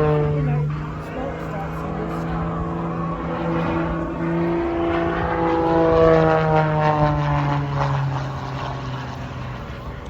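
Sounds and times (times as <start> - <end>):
propeller plane flying past: 0.0 - 10.0.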